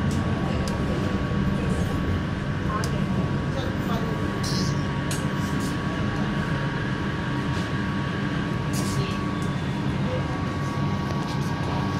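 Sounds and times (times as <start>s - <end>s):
constant high hum: 0.0s - 11.9s
light-rail car rumble: 0.0s - 11.9s.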